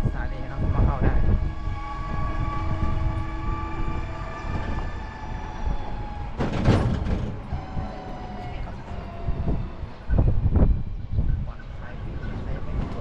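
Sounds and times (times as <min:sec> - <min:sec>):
motor and road rumble: 0:00.0 - 0:13.0.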